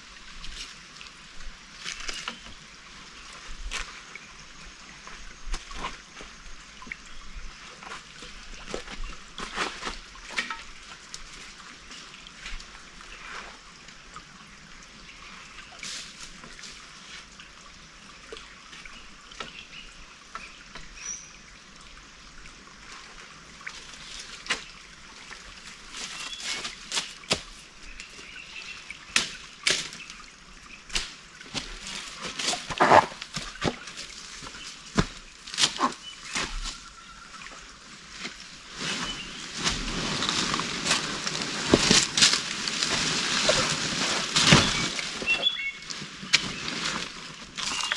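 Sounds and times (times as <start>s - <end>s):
water trickling and sloshing: 0.0s - 47.9s.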